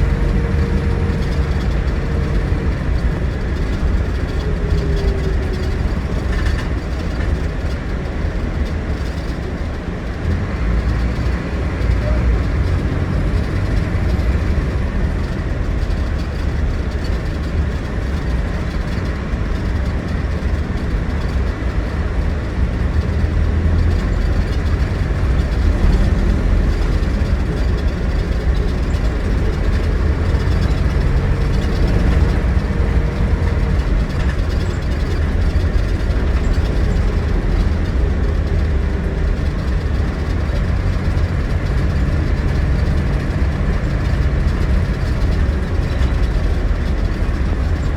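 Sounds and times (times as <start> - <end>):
diesel coach engine rumbling: 0.0 - 47.9.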